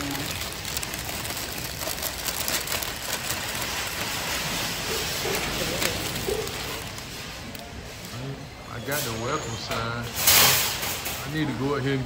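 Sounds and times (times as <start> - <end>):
faint voices: 0.0 - 10.2
busy store background noise: 0.0 - 12.0.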